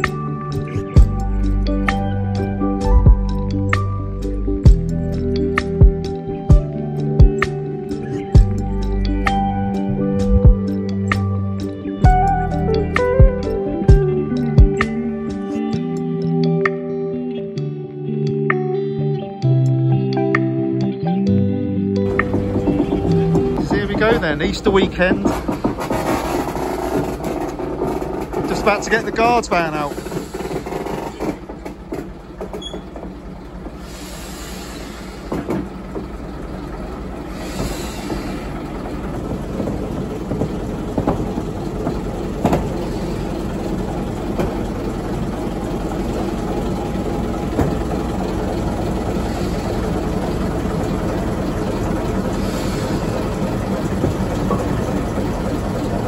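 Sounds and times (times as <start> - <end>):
diesel locomotive engine running: 0.0 - 17.3, 22.0 - 56.0.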